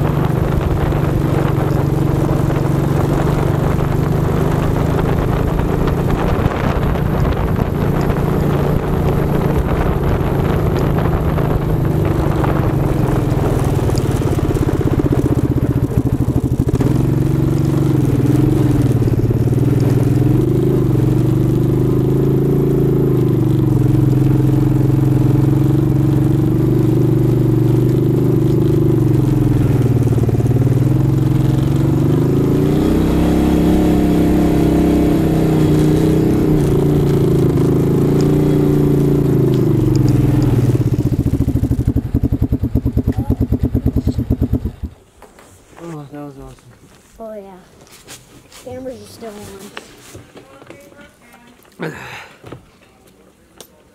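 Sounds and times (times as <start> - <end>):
atv engine running: 0.0 - 45.2.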